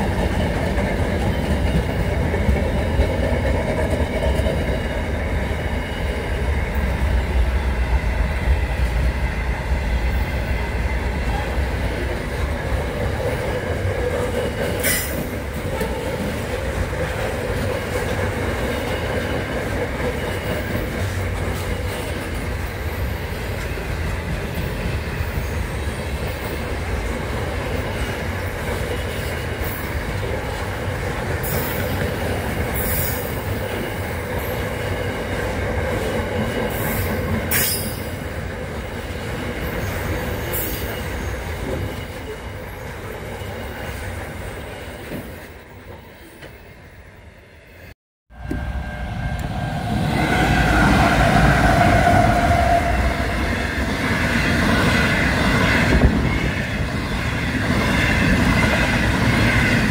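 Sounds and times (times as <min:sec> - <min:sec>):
train wheels rumbling on rails: 0:00.0 - 0:47.4, 0:48.3 - 0:59.9.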